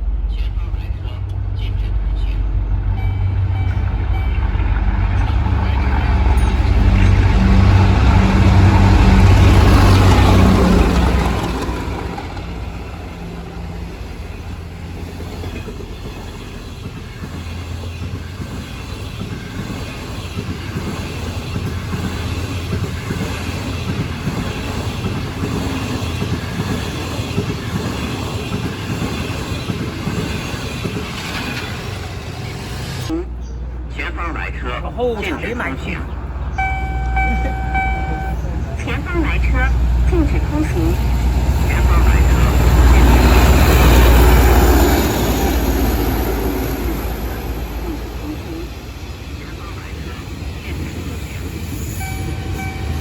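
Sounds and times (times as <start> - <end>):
diesel locomotive engine: 0.0 - 53.0
train wheels rumbling on rail: 0.0 - 53.0.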